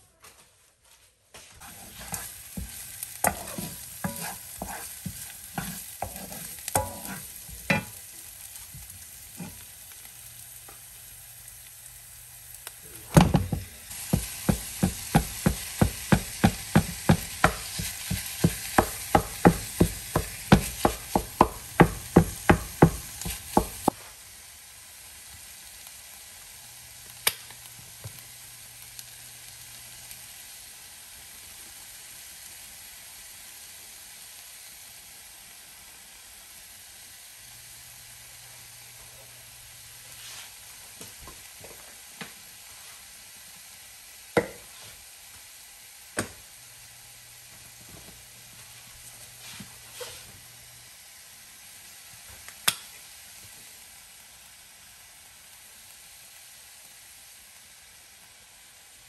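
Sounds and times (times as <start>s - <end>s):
meat sizzling in a frying pan: 1.6s - 59.0s.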